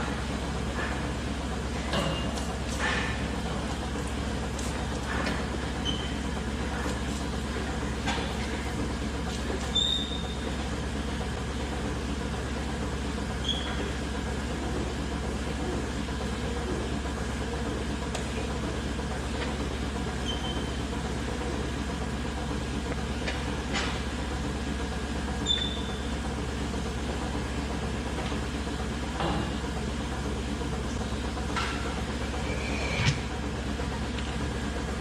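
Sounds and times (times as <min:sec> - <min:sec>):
milking machinery drone: 0:00.0 - 0:35.0.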